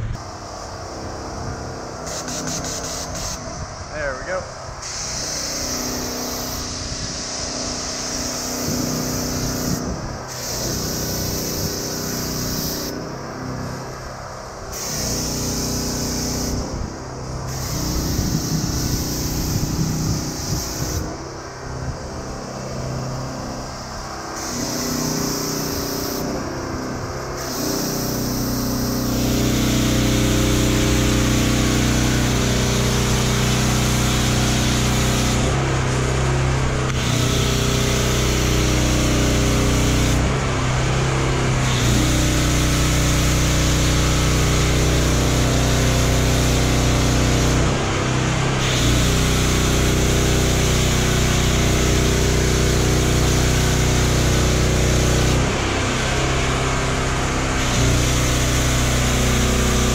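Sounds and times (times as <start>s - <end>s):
foam cannon hissing: 0.0s - 59.9s
pressure washer humming: 0.0s - 59.9s.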